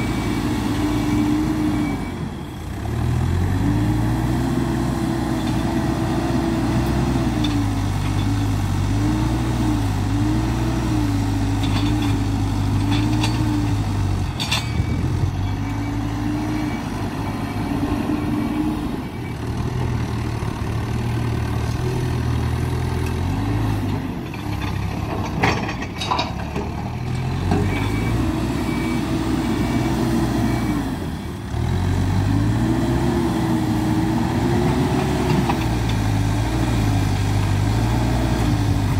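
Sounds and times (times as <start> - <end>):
diesel engine under hydraulic load: 0.0 - 38.9.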